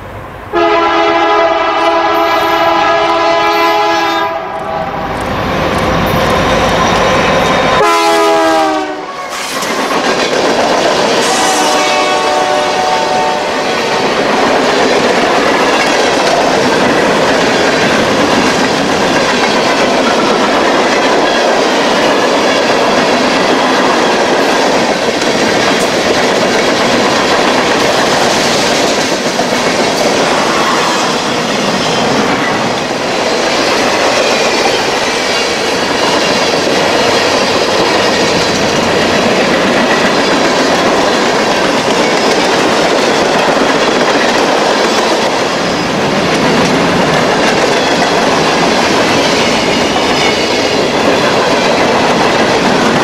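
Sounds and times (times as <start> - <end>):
freight train wheels on rails: 0.0 - 53.0.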